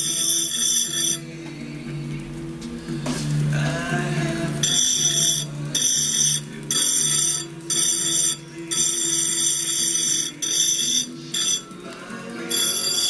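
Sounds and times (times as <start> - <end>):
faint music: 0.0 - 13.0
grinding wheel on glass whine: 0.0 - 13.0.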